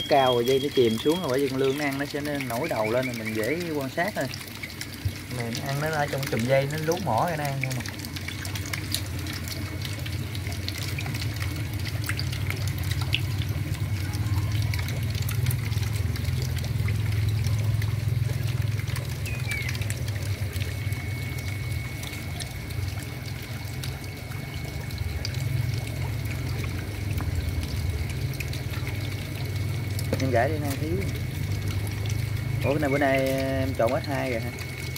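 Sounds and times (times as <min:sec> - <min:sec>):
water pouring into tank: 0:00.0 - 0:34.9.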